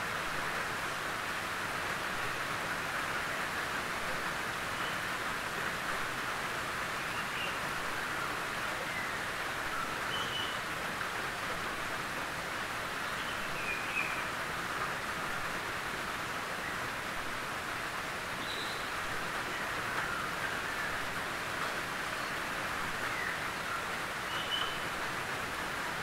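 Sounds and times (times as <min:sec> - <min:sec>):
rain on a tin roof: 0:00.0 - 0:26.0.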